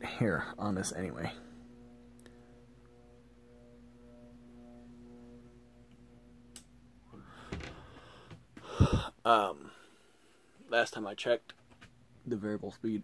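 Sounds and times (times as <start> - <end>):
fan motor electrical buzz: 0.0 - 13.0.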